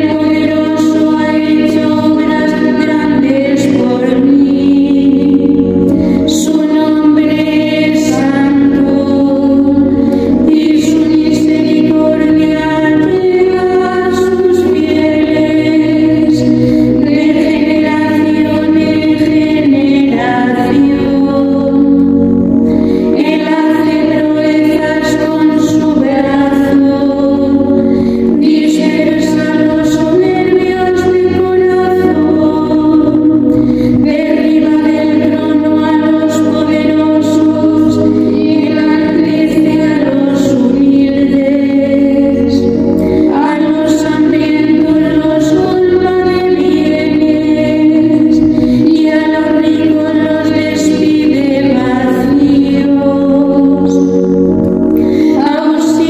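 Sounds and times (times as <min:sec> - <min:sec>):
keyboard accompaniment: 0:00.0 - 0:56.0
women's choir singing: 0:00.0 - 0:56.0.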